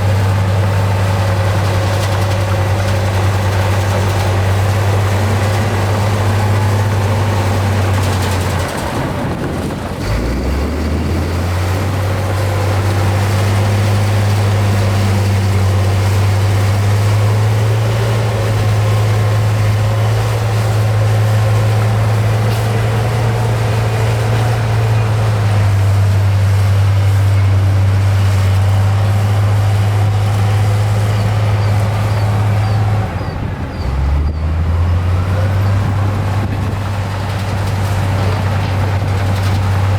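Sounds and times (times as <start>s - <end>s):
heavy machine diesel engine: 0.0s - 39.9s.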